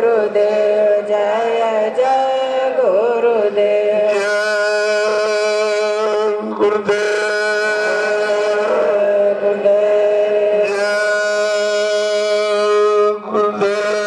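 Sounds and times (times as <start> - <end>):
person chanting a prayer: 0.0 - 14.0.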